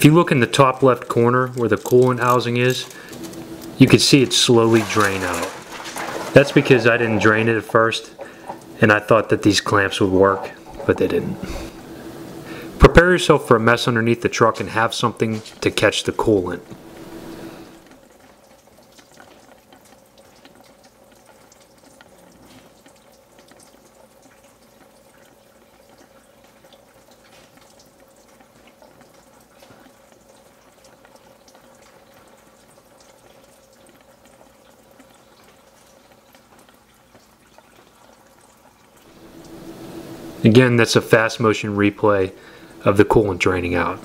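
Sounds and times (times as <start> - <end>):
coolant trickling and dripping: 0.0 - 44.0.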